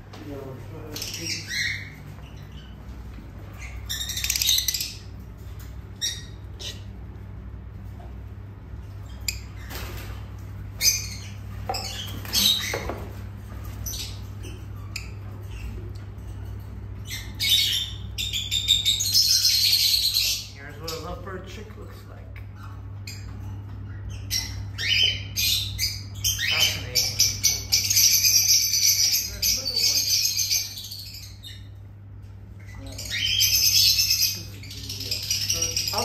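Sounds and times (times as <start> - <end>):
steady low hum: 0.0 - 36.0
lovebirds squawking and chirping: 0.8 - 36.0.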